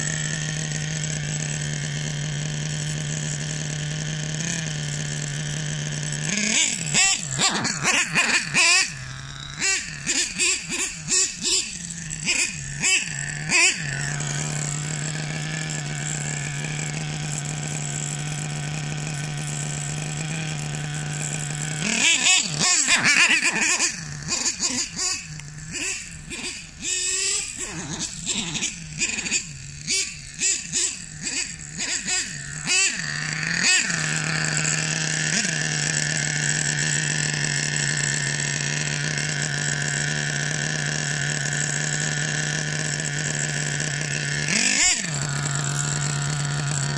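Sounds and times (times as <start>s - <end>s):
model engine running and revving: 0.0s - 46.9s.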